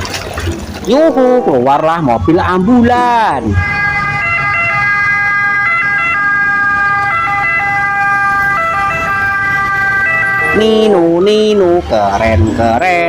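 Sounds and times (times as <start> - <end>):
ambulance siren: 0.9 - 12.6.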